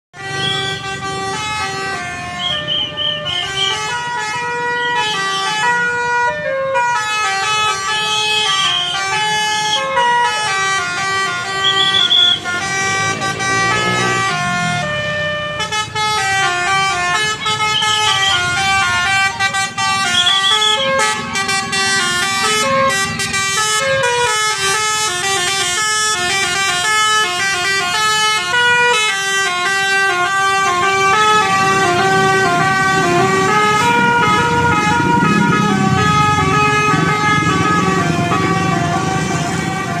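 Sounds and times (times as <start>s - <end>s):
musical air horn playing tune: 0.2s - 40.0s.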